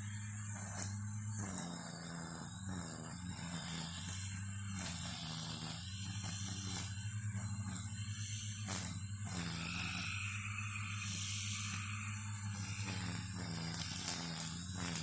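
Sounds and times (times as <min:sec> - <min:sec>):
string trimmer running: 0:00.0 - 0:15.0.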